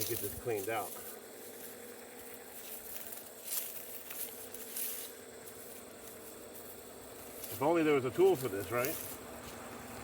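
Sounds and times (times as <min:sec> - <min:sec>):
grass rustling as pulled up: 0:00.0 - 0:10.0.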